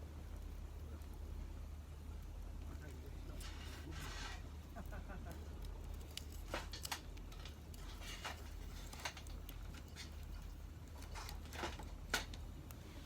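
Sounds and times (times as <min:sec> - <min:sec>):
light clicks and crackles: 0:00.0 - 0:13.0
steady low hum: 0:00.0 - 0:13.0.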